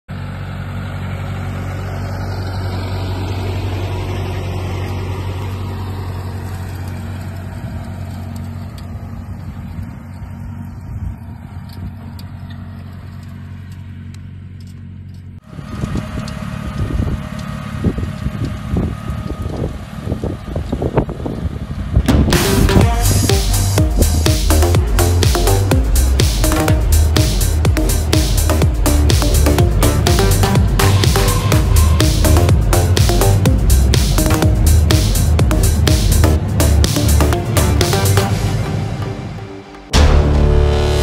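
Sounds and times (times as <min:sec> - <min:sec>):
tractor engine running: 0:00.1 - 0:41.0.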